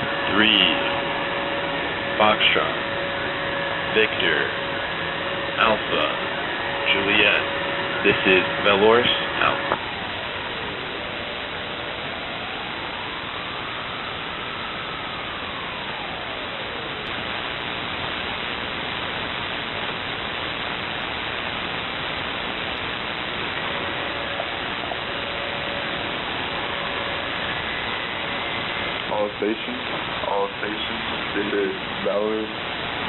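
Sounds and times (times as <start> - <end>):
faint steady tones: 0.0 - 33.0
shortwave radio static hiss: 0.0 - 33.0.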